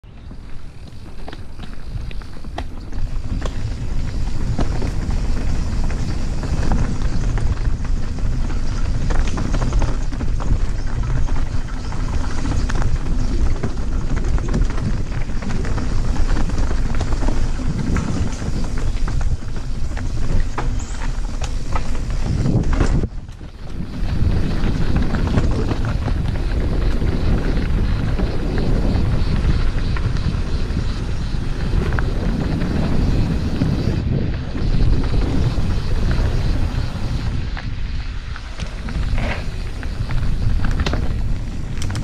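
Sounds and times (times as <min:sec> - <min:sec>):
bike tyres rumbling over gravel: 0:00.0 - 0:42.0
wind buffeting microphone: 0:00.0 - 0:42.0.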